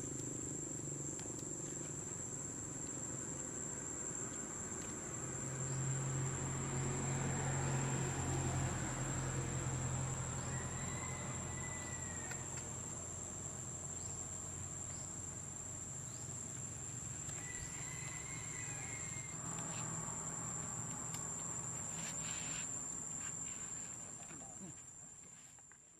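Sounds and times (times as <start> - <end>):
insects droning high-pitched: 0.0 - 25.9.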